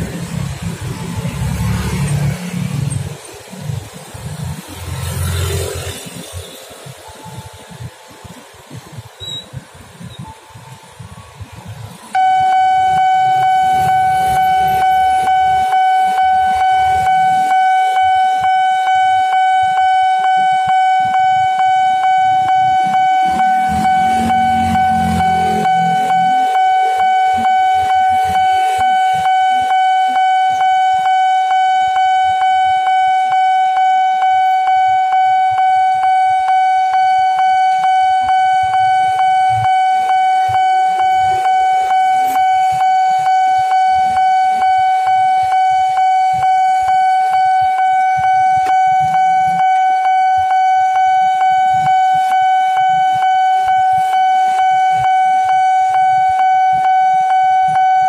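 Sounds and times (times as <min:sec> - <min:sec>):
level crossing warning alarm: 0:00.0 - 0:58.0.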